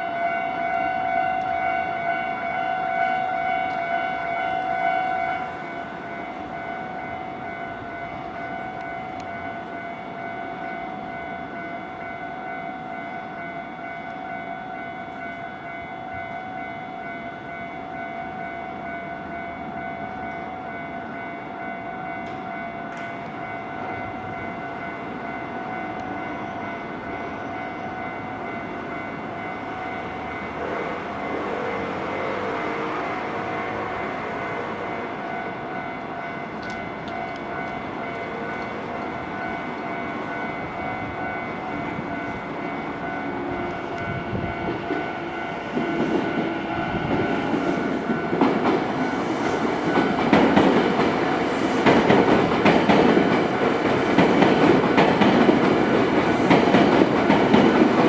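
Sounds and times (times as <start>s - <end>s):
level crossing warning bell: 0.0s - 58.0s
train rumbling: 0.0s - 58.0s.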